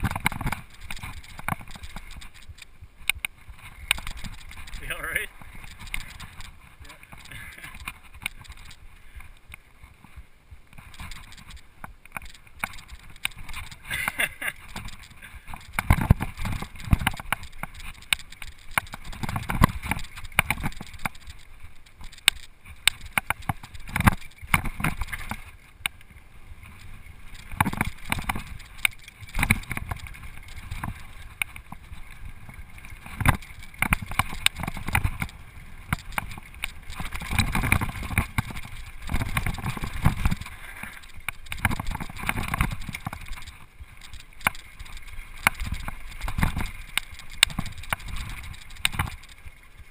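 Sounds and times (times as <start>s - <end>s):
bike knocking and rattling: 0.0s - 49.9s
tyres on dirt and gravel: 0.0s - 49.9s
wind rumble on microphone: 0.0s - 49.9s.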